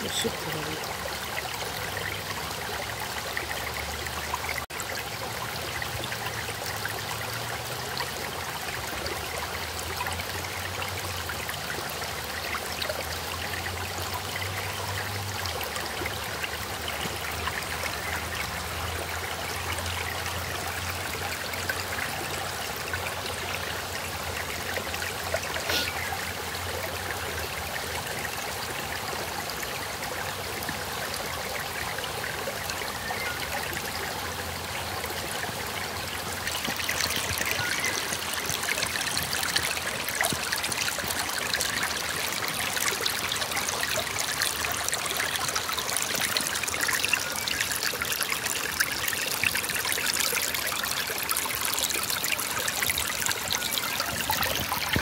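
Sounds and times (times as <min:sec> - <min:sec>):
brook trickling over stones: 0:00.0 - 0:55.0.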